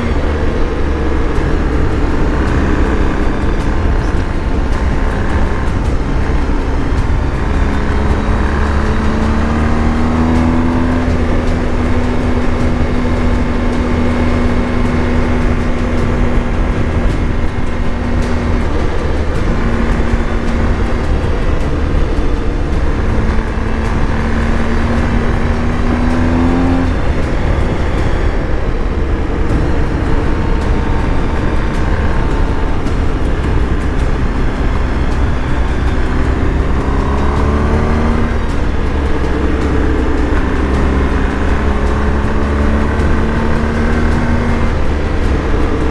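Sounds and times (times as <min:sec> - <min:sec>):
low wind rumble: 0:00.0 - 0:45.9
motorcycle engine accelerating: 0:00.0 - 0:45.9.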